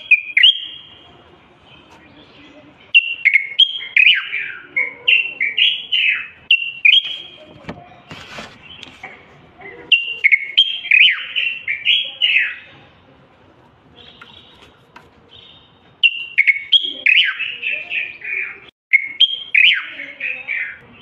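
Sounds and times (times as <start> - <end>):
bird singing fluty warbles: 0.0 - 9.0, 9.7 - 13.1, 14.0 - 21.0.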